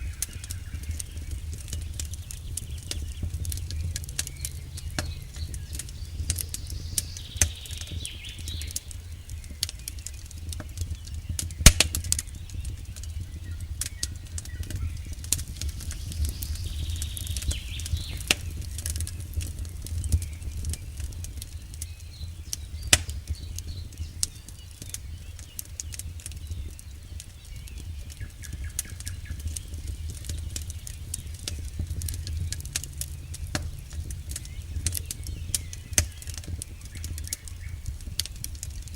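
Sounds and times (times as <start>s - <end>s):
campfire logs crackling: 0.0s - 38.9s
low fire rumble: 0.0s - 38.9s.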